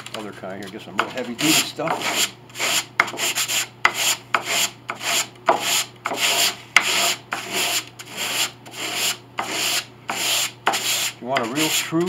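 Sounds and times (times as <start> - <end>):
sandpaper rubbing on wood: 1.1 - 12.0.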